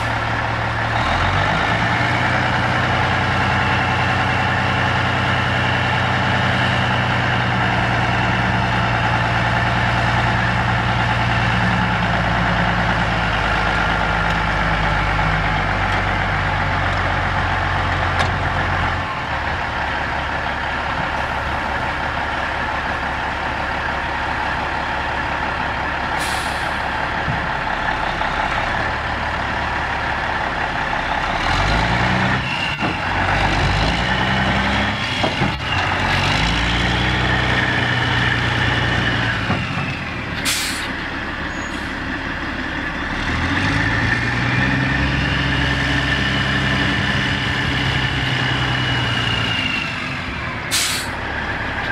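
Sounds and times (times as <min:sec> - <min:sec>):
diesel truck engine revving: 0:00.0 - 0:51.9.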